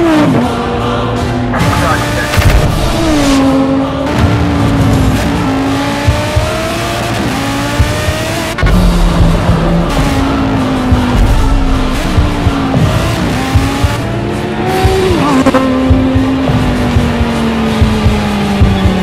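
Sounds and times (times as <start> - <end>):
race car engine upshifting: 0.0 - 19.0.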